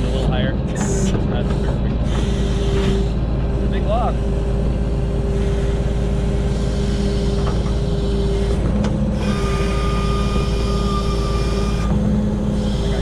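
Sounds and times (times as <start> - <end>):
diesel truck engine running: 0.0 - 13.0
thin high steady whine: 0.0 - 13.0.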